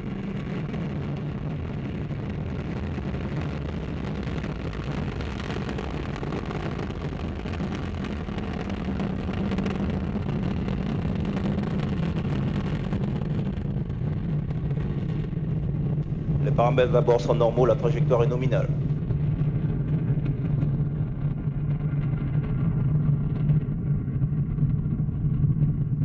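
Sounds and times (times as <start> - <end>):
rocket engine rumble: 0.0 - 26.0.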